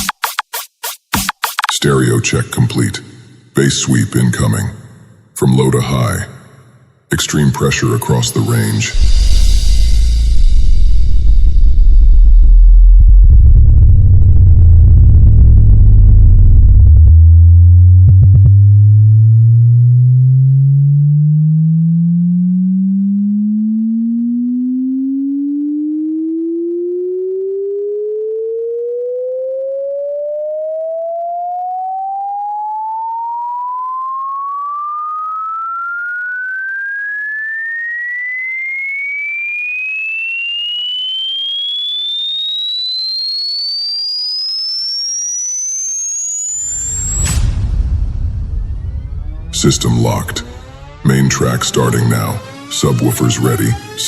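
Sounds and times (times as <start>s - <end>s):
sine wave tone sweep: 8.6s - 54.0s.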